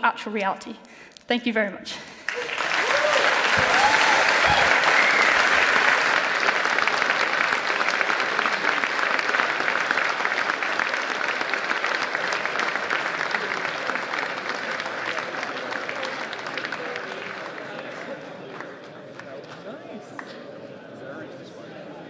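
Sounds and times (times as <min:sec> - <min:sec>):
audience applauding: 0:02.2 - 0:20.4.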